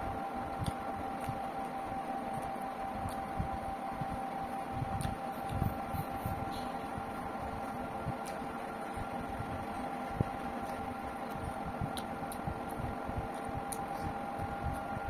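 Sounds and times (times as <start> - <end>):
steady mechanical hum: 0.0 - 15.0
person chewing: 0.6 - 3.4, 4.9 - 6.9, 7.5 - 15.0.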